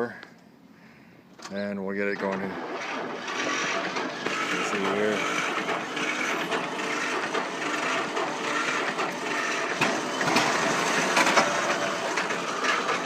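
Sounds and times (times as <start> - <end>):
tractor engine cranking on starter: 1.4 - 13.0.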